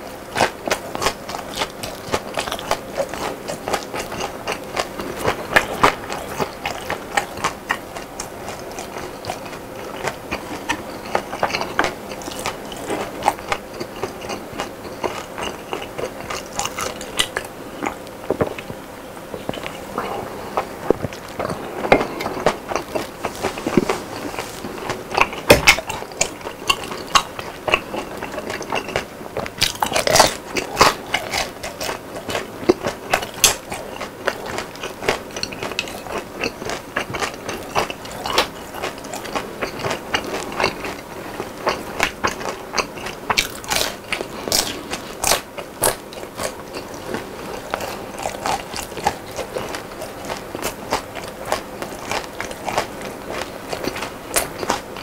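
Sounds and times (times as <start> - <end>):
person chewing crispy food: 0.0 - 55.0.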